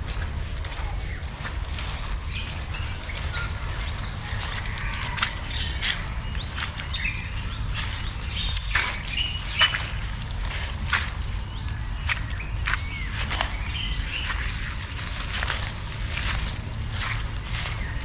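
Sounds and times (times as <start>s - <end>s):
insect drone: 0.0s - 18.0s
steady low rumble: 0.0s - 18.0s
bird chirps: 0.6s - 18.0s.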